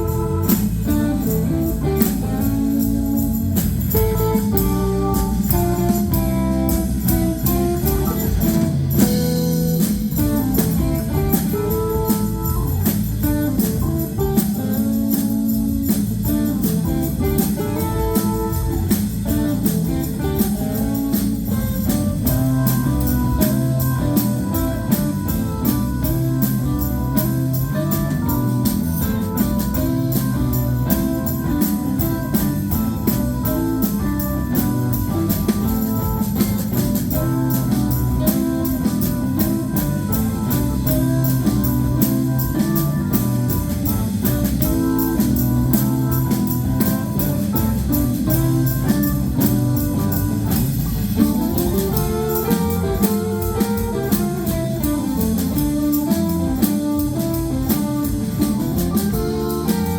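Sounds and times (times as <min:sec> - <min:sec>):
bass guitar: 0:00.0 - 0:59.9
electric guitar lines: 0:00.0 - 0:59.9
organ: 0:00.0 - 0:59.9
steady drum beat: 0:00.0 - 0:59.9.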